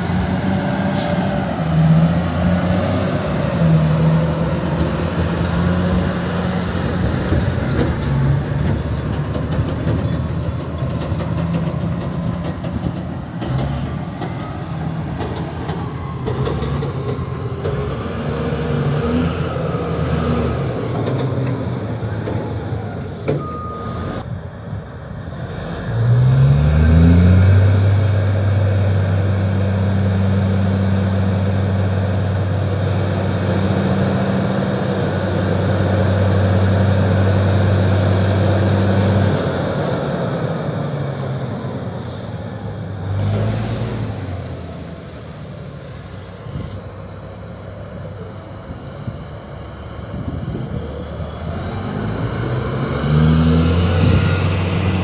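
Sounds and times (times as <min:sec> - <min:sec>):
truck diesel engine revving: 0:00.0 - 0:24.2, 0:25.2 - 0:55.0.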